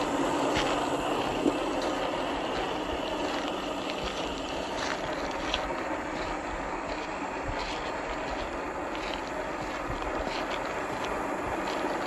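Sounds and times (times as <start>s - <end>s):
rc car driving on gravel: 0.0s - 12.0s.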